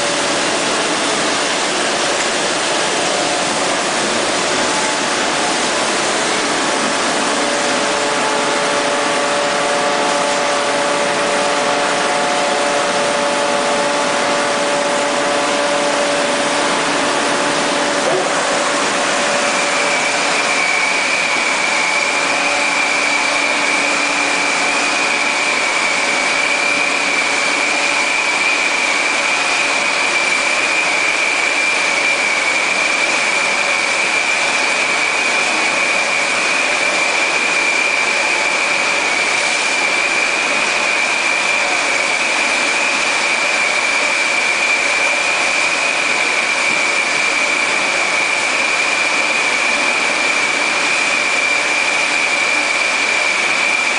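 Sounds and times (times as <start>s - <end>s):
conveyor and machine noise: 0.0s - 53.9s
high-pitched whine: 0.0s - 53.9s.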